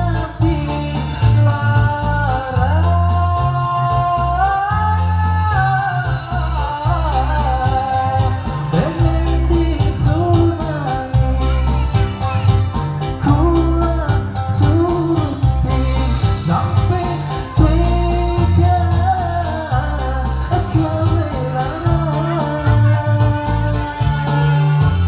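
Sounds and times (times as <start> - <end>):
bass and steady beat: 0.0 - 25.0
man singing: 0.0 - 25.0.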